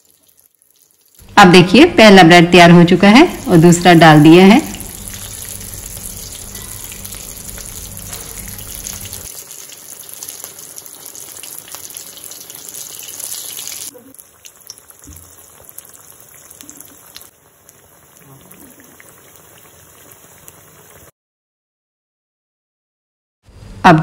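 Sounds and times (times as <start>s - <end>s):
bread deep-frying in sizzling oil: 0.0s - 1.4s, 2.1s - 21.1s.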